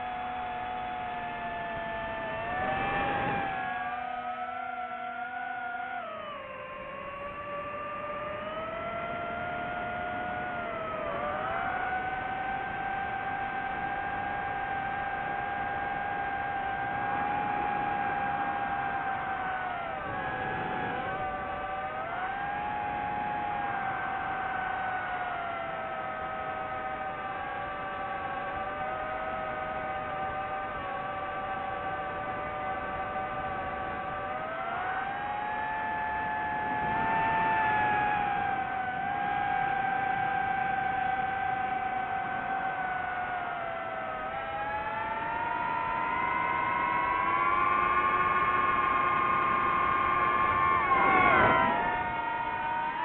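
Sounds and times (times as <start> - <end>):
drone motors whining: 0.0 - 53.0.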